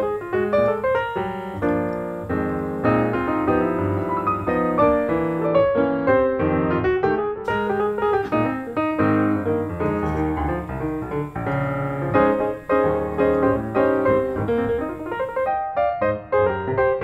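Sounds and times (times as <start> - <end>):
piano music with quick notes: 0.0 - 17.0.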